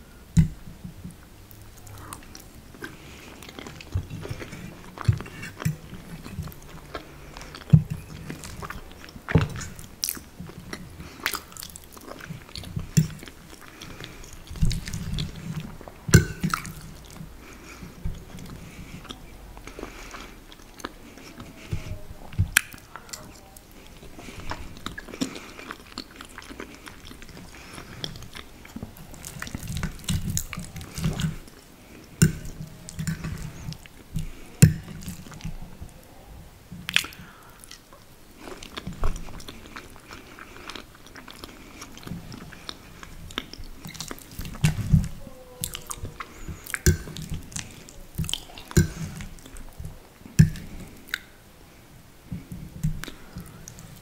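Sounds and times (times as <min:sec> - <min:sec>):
chewing and wet mouth sounds: 0:00.3 - 0:54.0.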